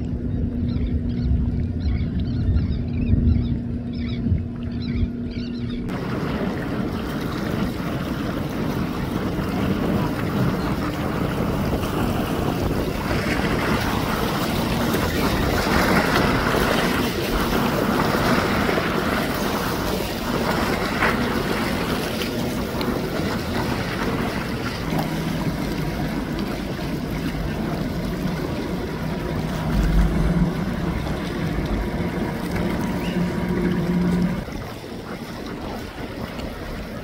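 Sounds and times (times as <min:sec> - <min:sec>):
boat engine humming: 0:00.0 - 0:37.0
wind noise on microphone: 0:00.0 - 0:37.0.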